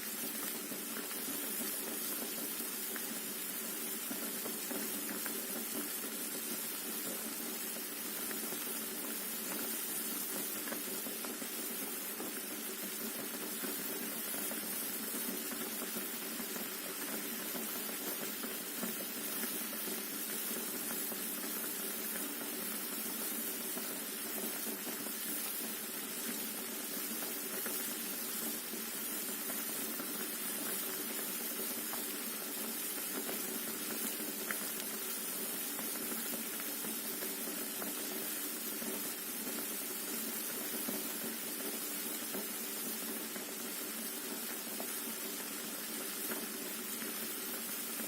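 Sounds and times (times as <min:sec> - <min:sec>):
water boiling in a pot: 0:00.0 - 0:48.0.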